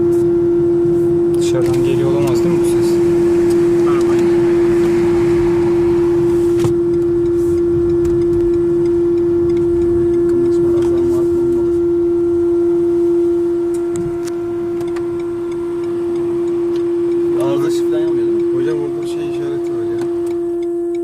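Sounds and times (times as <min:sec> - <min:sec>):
low car rumble: 0:00.0 - 0:21.0
speaker buzzing hum: 0:00.0 - 0:21.0.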